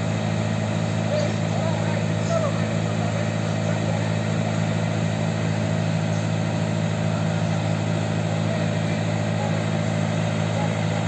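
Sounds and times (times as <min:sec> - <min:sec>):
combine harvester engine humming: 0:00.0 - 0:11.0.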